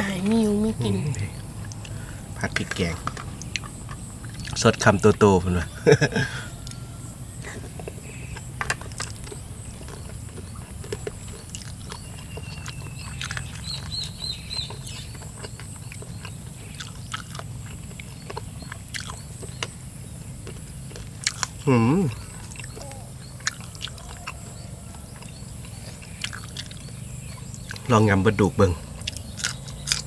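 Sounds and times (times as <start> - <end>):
low background hum: 0.0 - 30.0
people chewing food: 0.8 - 30.0.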